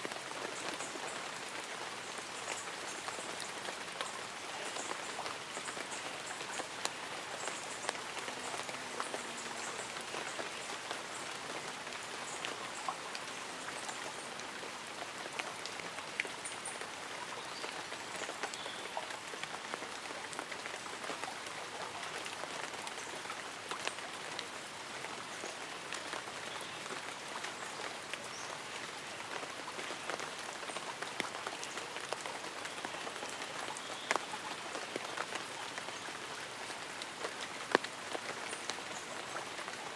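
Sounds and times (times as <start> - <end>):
raindrops ticking on umbrella: 0.0 - 14.6, 15.2 - 39.9
light rain falling: 0.0 - 39.9.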